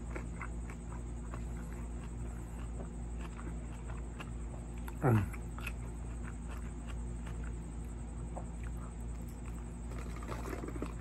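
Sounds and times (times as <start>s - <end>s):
steady low hum: 0.0s - 11.0s
wet chewing mouth clicks: 0.0s - 11.0s.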